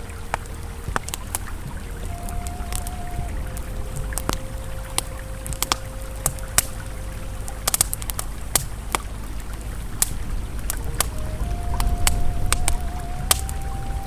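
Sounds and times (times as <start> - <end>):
campfire crackling: 0.0 - 14.0
river flowing: 0.0 - 14.0
soft ambient tone: 0.0 - 14.0.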